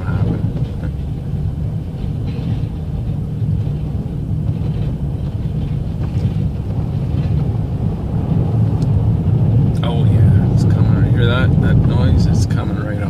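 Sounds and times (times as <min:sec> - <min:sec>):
snow plow engine and blade rumble: 0:00.0 - 0:13.0.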